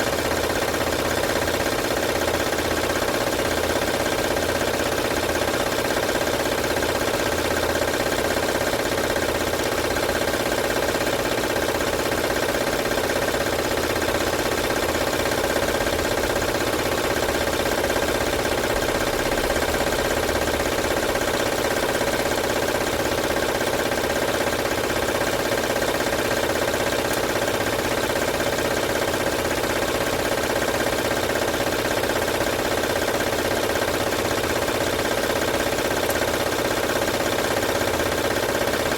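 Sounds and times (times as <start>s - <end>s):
car engine idling with rattle: 0.2s - 38.9s.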